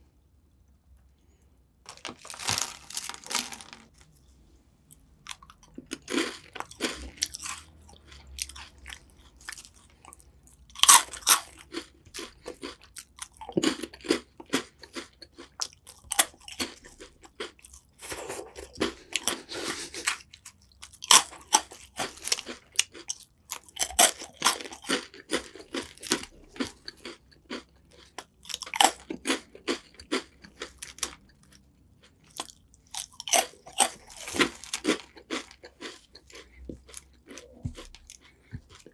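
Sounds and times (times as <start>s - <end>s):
crunching and chewing snack sticks: 1.9s - 4.2s, 4.9s - 38.9s.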